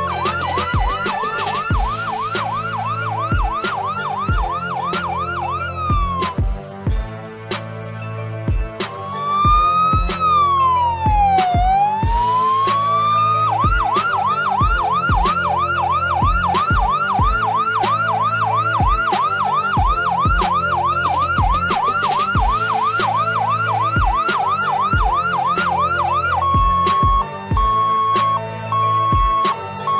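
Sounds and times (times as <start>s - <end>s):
toy electronic siren: 0.0s - 6.4s, 9.1s - 29.9s
background music with beat: 0.0s - 29.9s.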